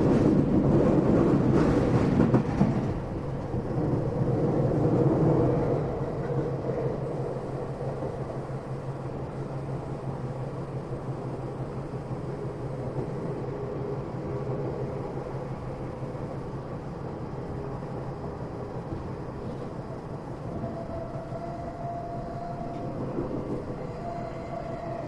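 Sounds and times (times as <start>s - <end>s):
train wheels rumbling on rail: 0.0s - 25.0s
faint steady whine: 3.1s - 25.0s.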